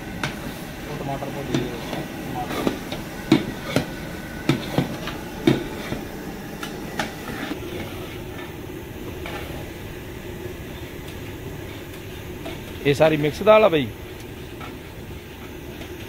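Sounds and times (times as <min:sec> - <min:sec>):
gas burner and frying rush: 0:00.0 - 0:16.0.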